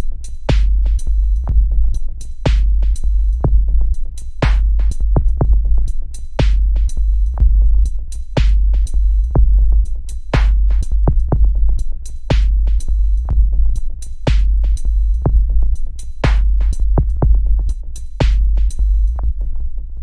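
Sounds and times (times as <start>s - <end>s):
heavy sustained bass: 0.0s - 19.8s
electronic music: 0.0s - 20.0s
hi-hat ticks: 0.0s - 20.0s.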